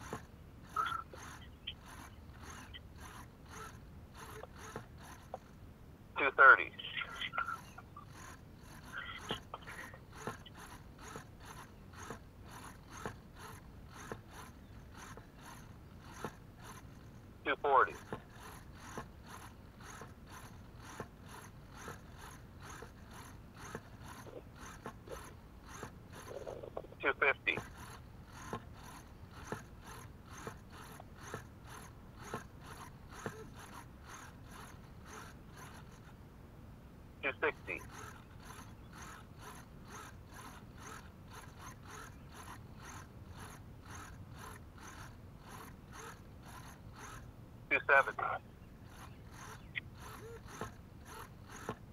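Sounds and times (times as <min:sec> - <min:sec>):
servo gear whirring: 0:00.0 - 0:36.3, 0:37.2 - 0:51.9.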